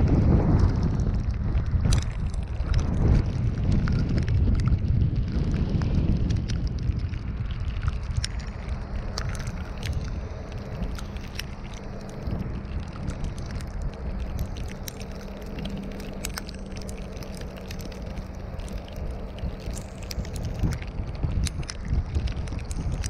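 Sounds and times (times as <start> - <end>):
car road and wind noise: 0.0 - 23.0
sharp little ticks: 0.6 - 23.0.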